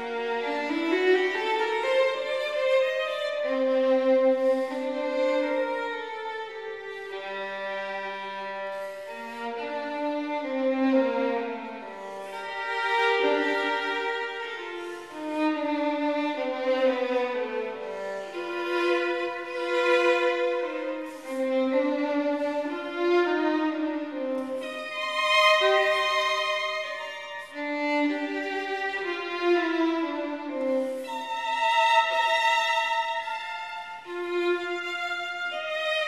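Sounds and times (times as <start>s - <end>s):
slow violin melody: 0.0s - 36.0s.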